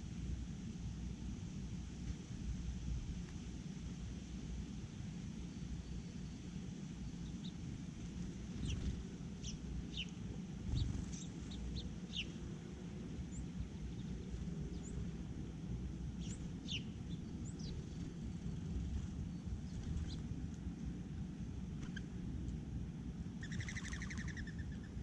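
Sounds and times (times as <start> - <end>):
steady low rumble: 0.0 - 25.0
songbirds chirping: 4.1 - 25.0.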